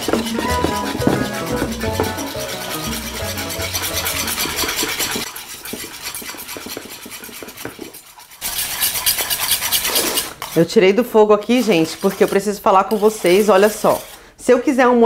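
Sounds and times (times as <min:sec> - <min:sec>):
whisk scraping a pan: 0:00.0 - 0:14.4.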